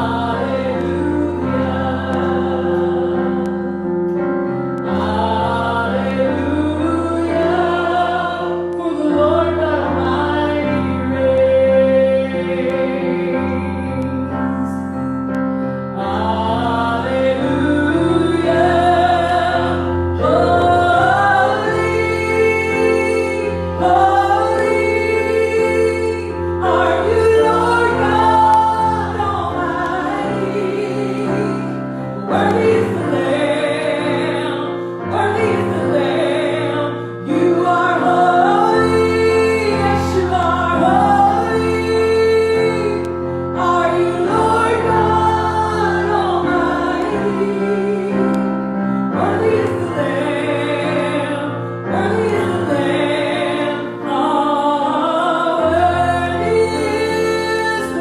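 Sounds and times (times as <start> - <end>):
instrumental accompaniment: 0.0 - 58.0
singers singing a hymn: 0.0 - 58.0
woman singing: 4.9 - 14.2, 16.0 - 48.4, 49.2 - 58.0.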